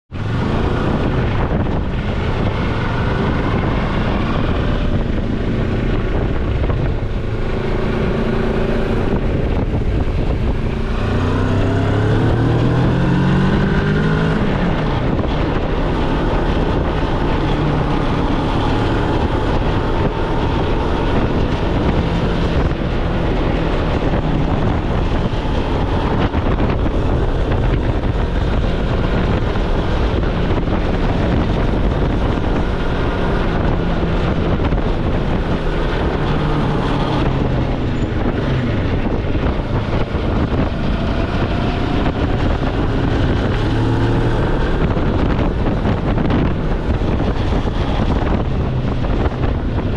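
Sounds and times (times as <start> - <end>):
motorcycle engine: 0.1 - 49.9
wind rush on microphone: 0.1 - 49.9.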